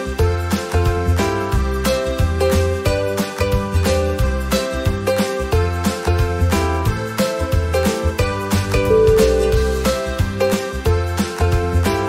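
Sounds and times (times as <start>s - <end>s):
instrumental music with pulsing bass: 0.0s - 12.0s.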